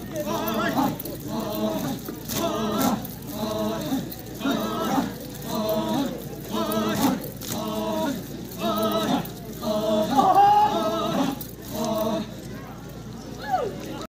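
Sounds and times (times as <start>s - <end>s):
men chanting in unison: 0.0s - 12.5s.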